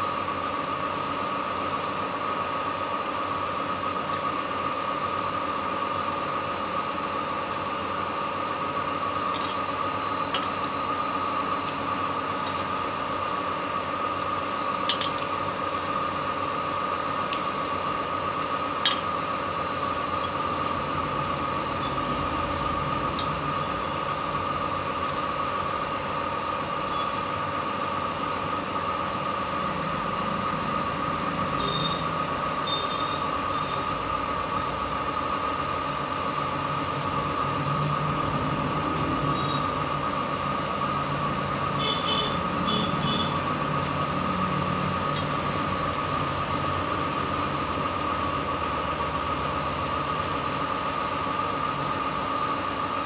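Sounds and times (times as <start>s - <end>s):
machine hum with whine: 0.0s - 53.0s.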